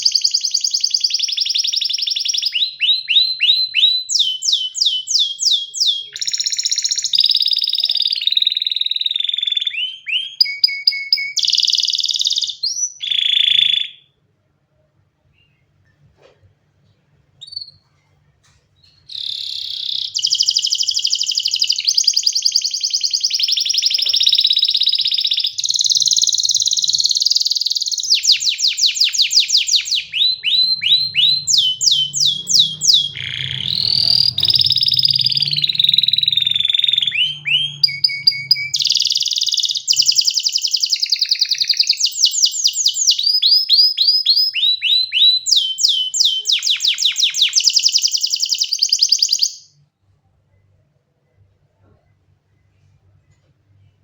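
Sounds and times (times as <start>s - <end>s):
canary singing: 0.0s - 14.0s, 17.4s - 17.9s, 18.8s - 49.8s.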